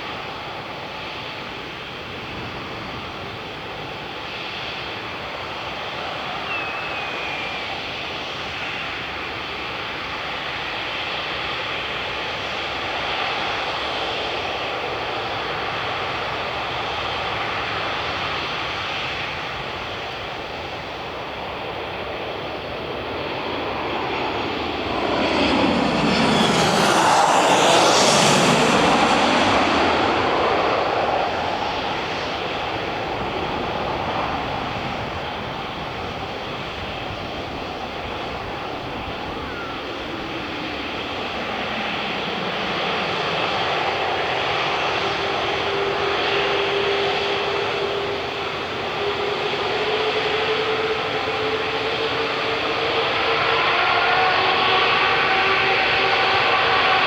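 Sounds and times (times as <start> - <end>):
jet airliner passing: 0.0 - 57.0.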